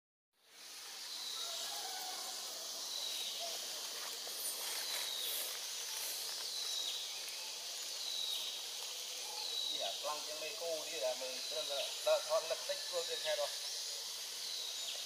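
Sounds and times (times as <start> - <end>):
high insect drone: 0.4 - 15.0.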